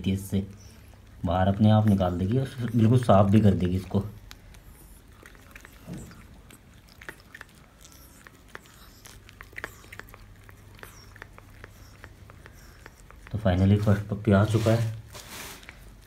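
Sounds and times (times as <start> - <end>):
dog licking wet clicks and smacks: 0.5 - 14.2.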